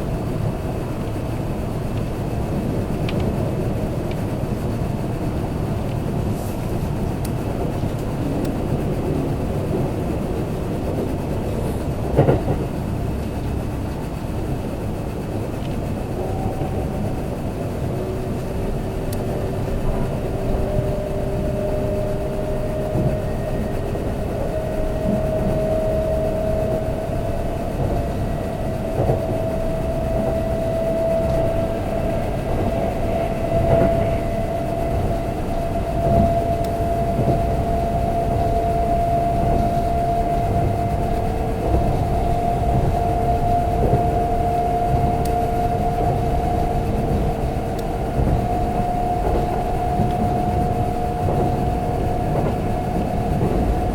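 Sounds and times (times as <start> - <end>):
train motor whine: 0.0 - 53.9
train wheels rumbling on rail: 0.0 - 53.9.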